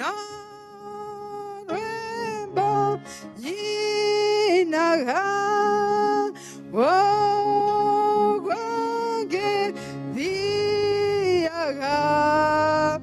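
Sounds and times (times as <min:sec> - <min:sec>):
low steady notes: 0:00.0 - 0:13.0
woman singing into a microphone: 0:00.0 - 0:13.0.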